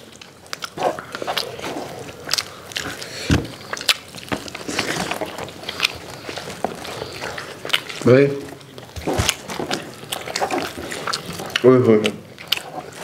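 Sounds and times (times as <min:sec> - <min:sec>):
people chewing and lip smacking: 0:00.0 - 0:13.0.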